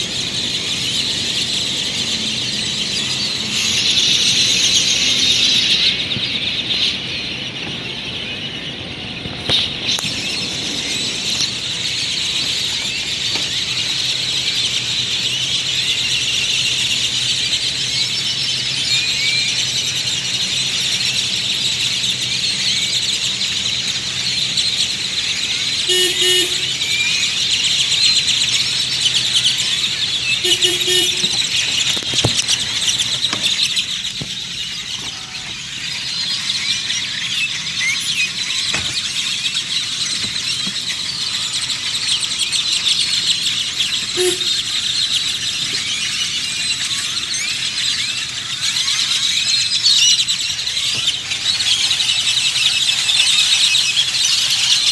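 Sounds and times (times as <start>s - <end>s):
flock of birds chirping: 0.0s - 54.9s.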